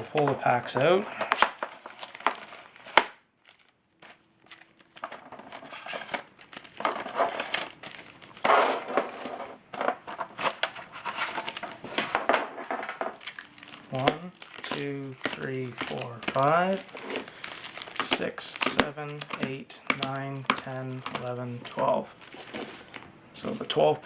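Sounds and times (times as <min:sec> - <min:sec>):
card packs crinkling and rustling: 0:00.0 - 0:24.0.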